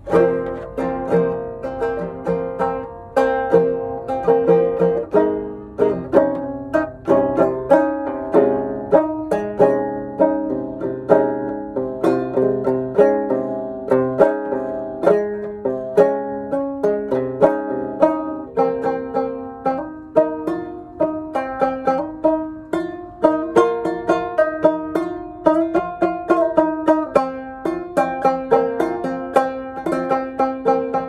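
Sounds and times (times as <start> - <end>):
banjo playing: 0.0 - 31.0.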